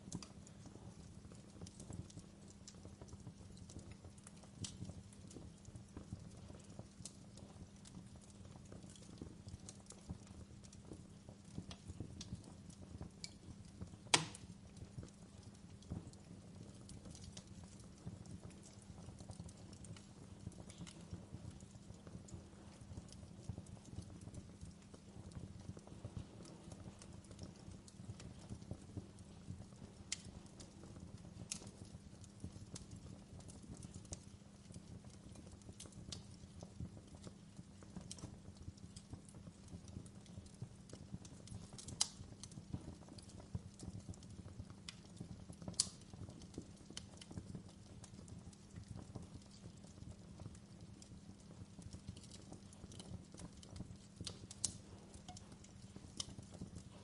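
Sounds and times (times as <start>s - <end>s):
wood fire crackling: 0.0s - 57.0s
sharp pops of fire: 0.1s - 57.0s.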